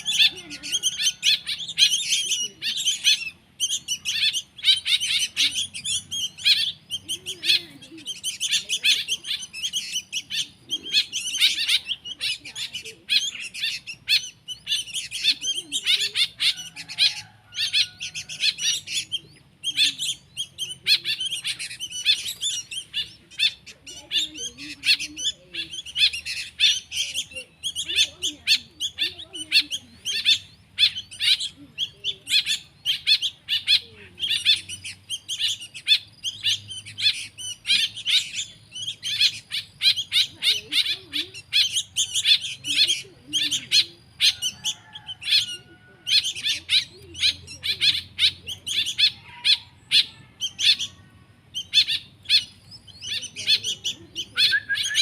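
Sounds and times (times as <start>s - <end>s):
chicks chirping rapidly: 0.0s - 55.0s.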